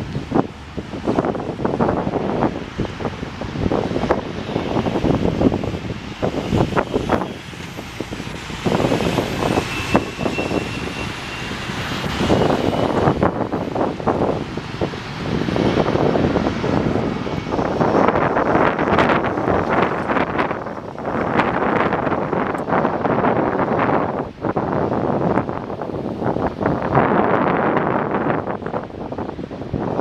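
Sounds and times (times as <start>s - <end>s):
jet engine noise: 0.0s - 30.0s
wind buffeting microphone: 0.0s - 30.0s.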